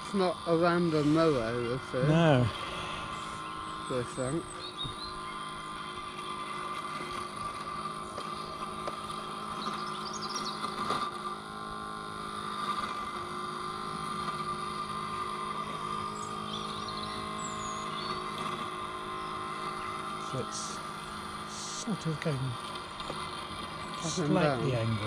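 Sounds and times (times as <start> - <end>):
high motor whine: 0.0 - 25.0
robot lawnmower humming: 0.0 - 25.0.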